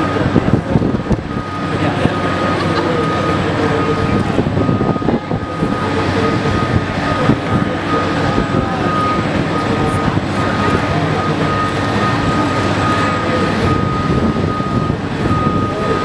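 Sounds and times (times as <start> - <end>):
high-pitched whine: 0.0 - 16.0
tractor engine rumble: 0.0 - 16.0.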